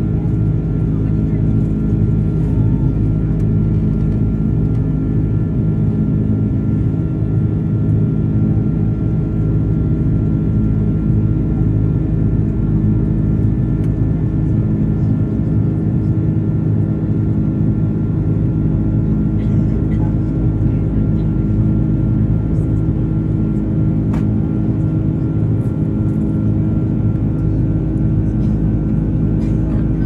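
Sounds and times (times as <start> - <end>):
constant hum tones: 0.0 - 30.0
jet engines droning: 0.0 - 30.0.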